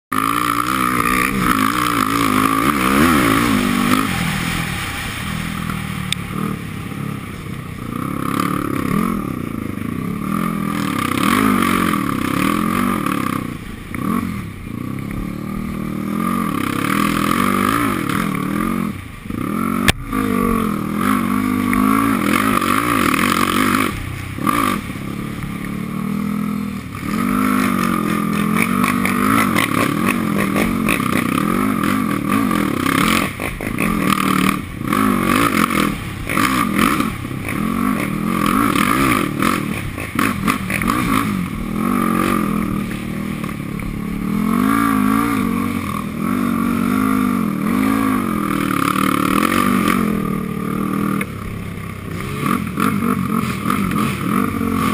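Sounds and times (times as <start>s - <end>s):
off-road vehicle engine revving: 0.1s - 54.9s.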